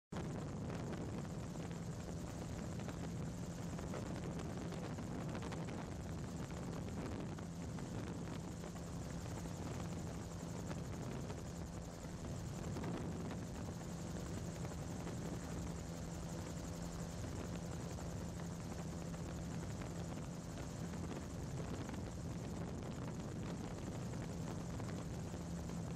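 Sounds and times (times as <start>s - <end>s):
engine and propeller drone: 0.2s - 25.9s.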